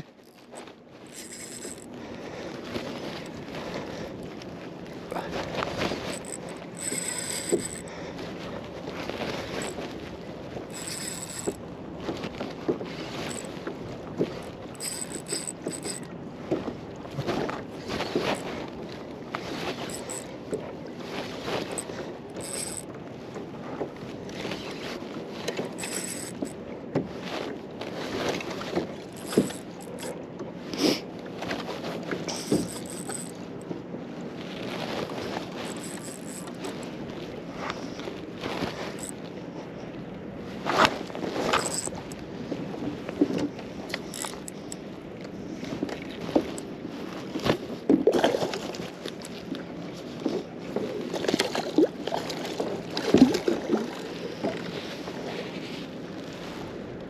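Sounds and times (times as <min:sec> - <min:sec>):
water lapping against boat hull: 0:00.0 - 0:57.0.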